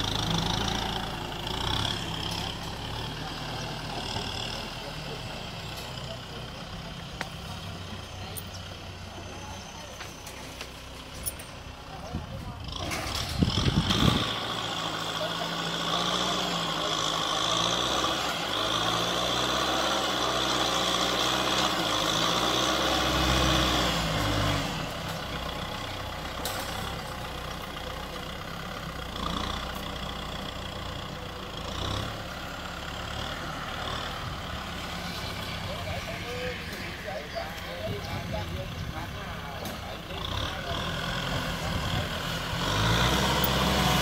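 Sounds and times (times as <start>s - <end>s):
tractor diesel engine working: 0.0s - 44.0s.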